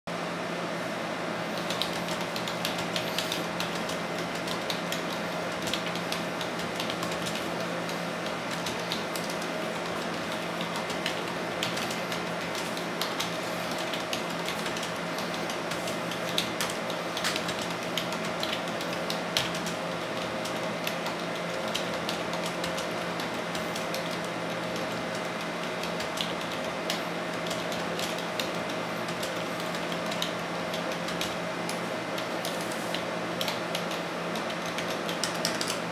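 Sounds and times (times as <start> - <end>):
steady background hum: 0.1 - 35.9
soft keyboard typing: 1.6 - 35.9.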